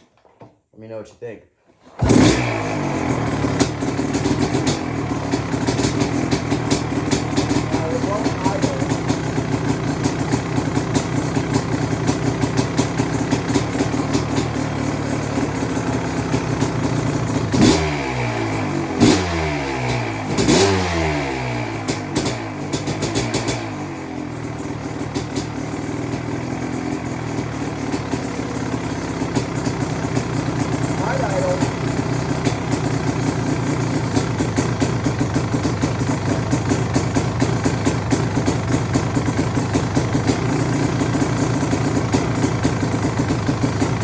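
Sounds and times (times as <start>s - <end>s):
engine revving: 1.9s - 38.8s
two-stroke motorcycle idling: 2.0s - 44.0s.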